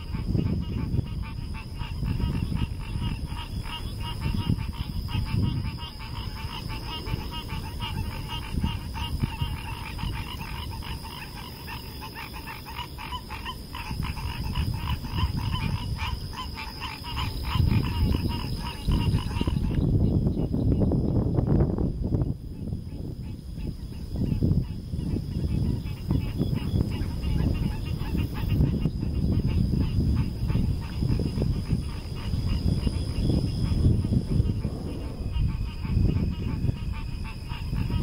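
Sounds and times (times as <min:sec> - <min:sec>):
small wildlife calling in pulses: 0:00.0 - 0:21.2, 0:22.2 - 0:38.0
wind rumble on microphone: 0:00.0 - 0:38.0.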